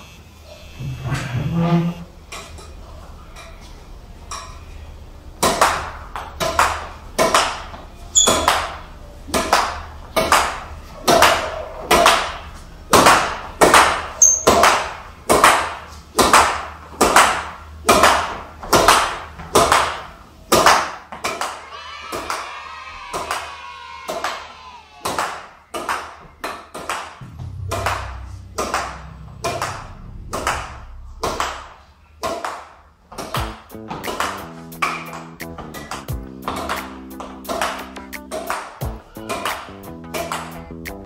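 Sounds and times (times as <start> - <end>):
racket hitting shuttlecock: 5.4 - 22.4, 25.0 - 41.0.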